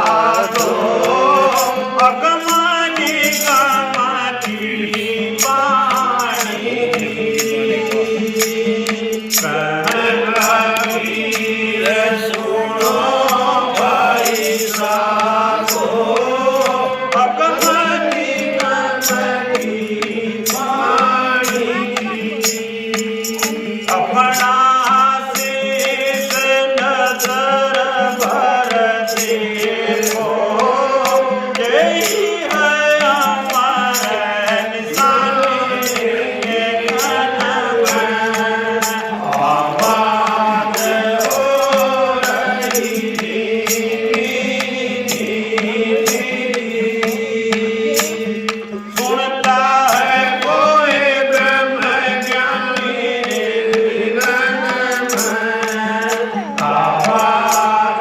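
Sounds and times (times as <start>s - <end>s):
percussion strokes: 0.0s - 58.0s.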